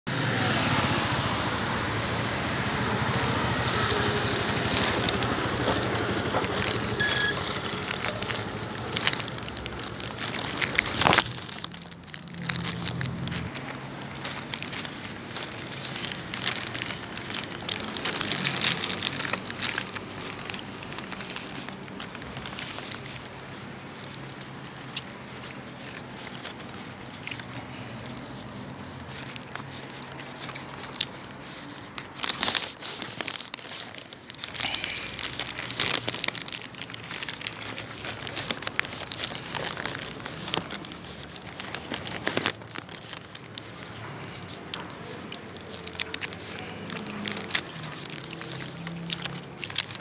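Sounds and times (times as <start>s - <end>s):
chocolate wrapper crinkling: 0.8s - 50.0s.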